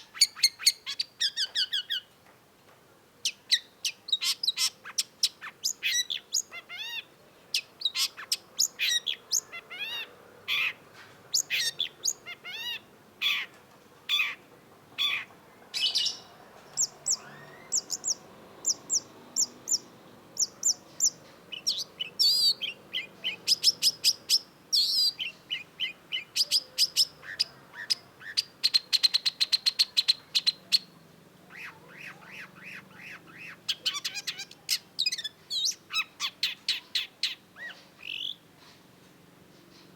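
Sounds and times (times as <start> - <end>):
bird singing sharp notes and trills: 0.0 - 2.2, 3.2 - 14.4, 15.0 - 38.9.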